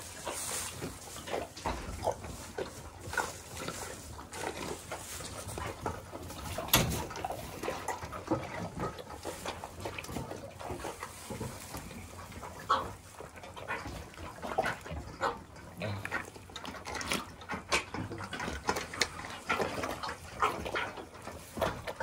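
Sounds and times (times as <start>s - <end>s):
calves slurping milk from metal bowls: 0.0s - 22.0s.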